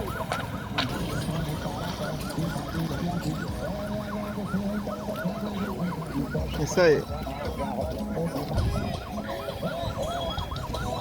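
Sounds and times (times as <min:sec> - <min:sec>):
electronic siren yelping: 0:00.0 - 0:11.0.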